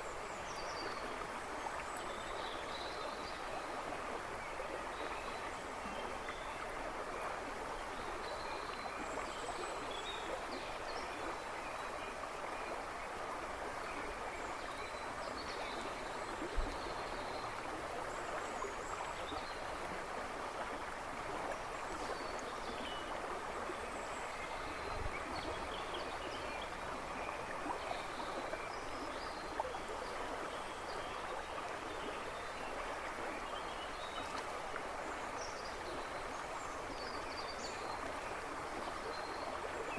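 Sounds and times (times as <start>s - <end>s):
river babbling and rushing: 0.0s - 39.9s.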